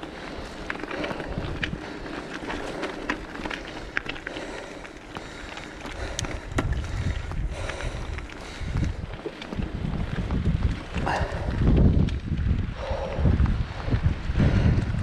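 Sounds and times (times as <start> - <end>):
bike tyres crunching on gravel: 0.0 - 15.0
ticks and rattles over stones: 0.0 - 15.0
wind rumbling on microphone: 0.0 - 15.0.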